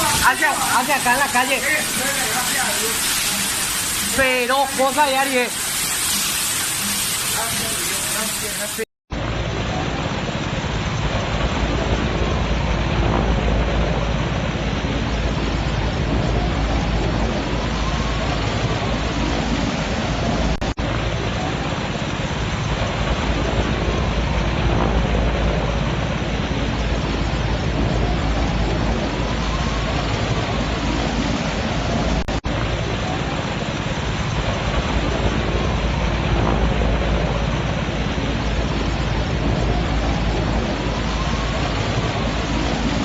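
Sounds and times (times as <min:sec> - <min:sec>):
bushfire rushing in strong wind: 0:00.0 - 0:06.8, 0:09.1 - 0:43.0.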